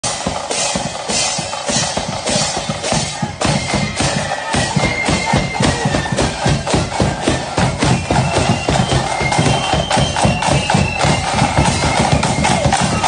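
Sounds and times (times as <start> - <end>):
bass drum and snare drums: 0.0 - 13.0
high flute notes: 1.3 - 13.0.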